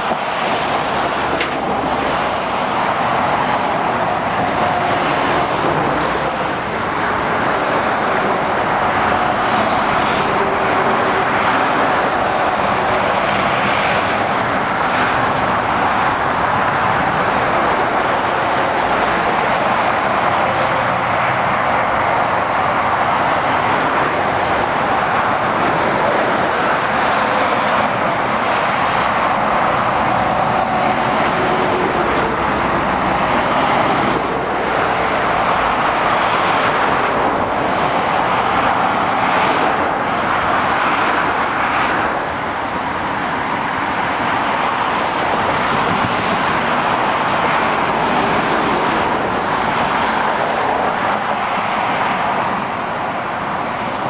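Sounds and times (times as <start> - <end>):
motorway traffic roar: 0.0 - 54.0.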